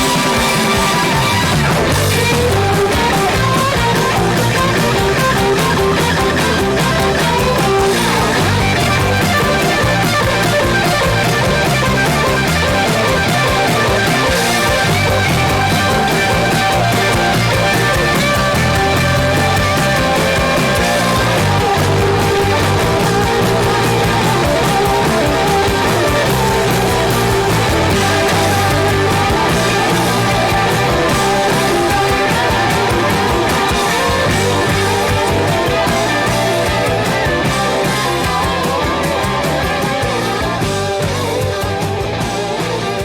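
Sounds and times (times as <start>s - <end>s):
loud rock music: 0.0s - 43.0s.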